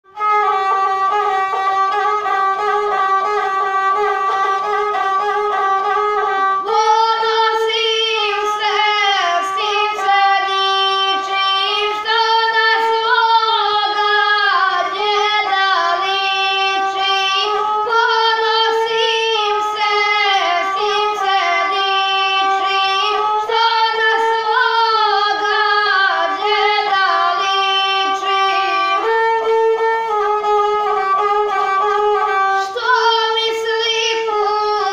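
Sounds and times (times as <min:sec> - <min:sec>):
bowed single-string fiddle melody: 0:00.0 - 0:34.9
boy singing: 0:00.1 - 0:34.9.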